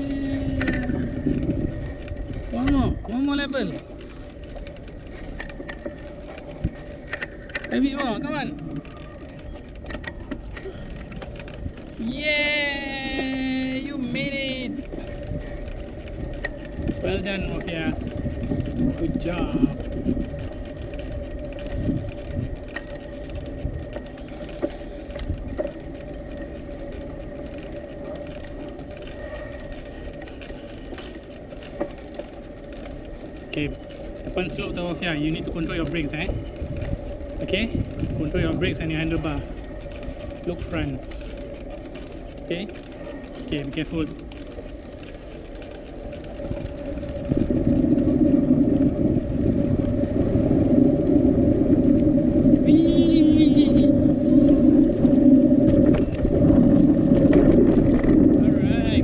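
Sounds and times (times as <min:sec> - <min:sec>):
bicycles rolling on pavement: 0:00.0 - 0:59.0
faint constant whine: 0:00.0 - 0:59.0
small clicks and rattles: 0:00.0 - 0:59.0
steady hum: 0:00.0 - 0:59.0.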